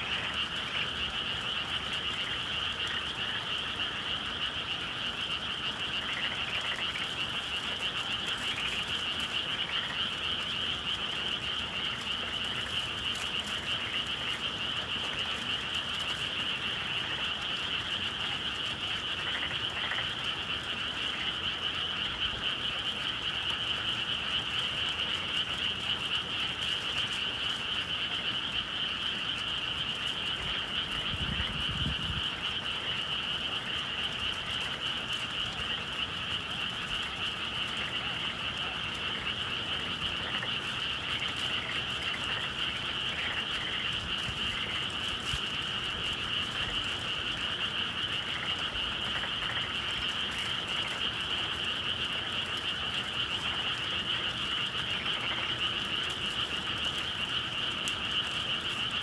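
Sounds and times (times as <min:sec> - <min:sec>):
chorus of frogs calling: 0:00.0 - 0:59.0.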